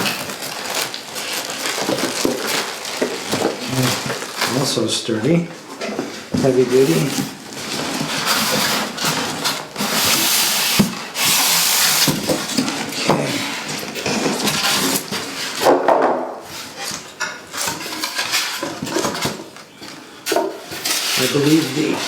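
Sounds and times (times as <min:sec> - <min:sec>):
packaging rustling and scraping: 0:00.0 - 0:22.0.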